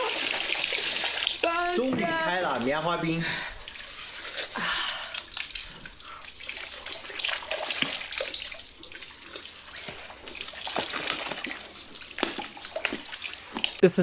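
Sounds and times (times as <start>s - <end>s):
liquid splashing and trickling: 0.0s - 13.8s.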